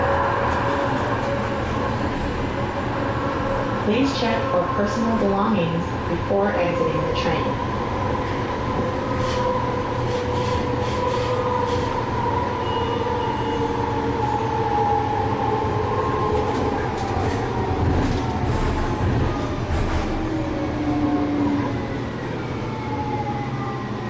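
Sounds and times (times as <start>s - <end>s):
train rumble with motor whine: 0.0s - 13.6s, 14.2s - 24.0s.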